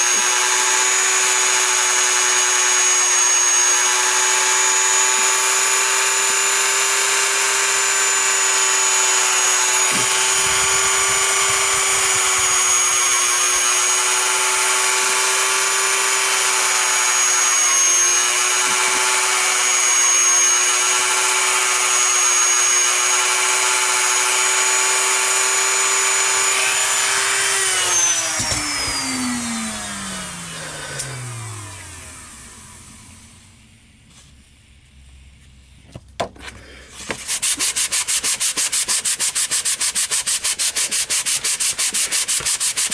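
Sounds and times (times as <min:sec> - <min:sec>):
rotary tool whining: 0:00.0 - 0:33.7, 0:36.8 - 0:42.9.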